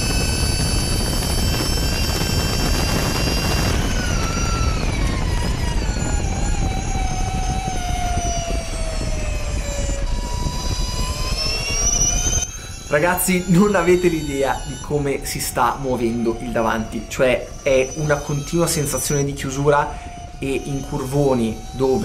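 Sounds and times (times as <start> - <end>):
electric motor whine: 0.0 - 22.0
wind rush: 0.0 - 22.0.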